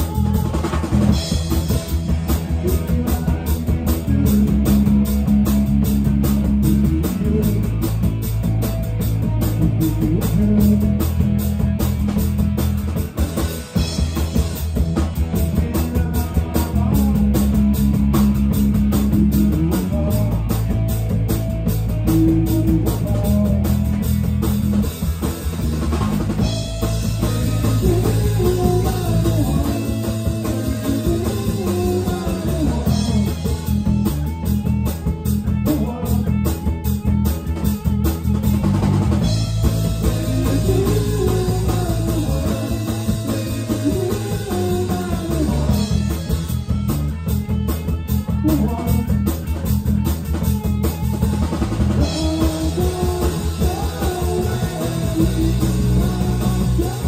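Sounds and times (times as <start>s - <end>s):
bass guitar: 0.0s - 57.0s
drum kit beat: 0.0s - 57.0s
electric guitars: 0.0s - 57.0s.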